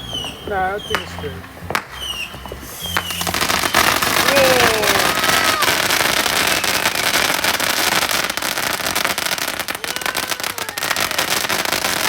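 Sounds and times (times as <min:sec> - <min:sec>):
firework crackling pops and bangs: 0:00.0 - 0:12.0.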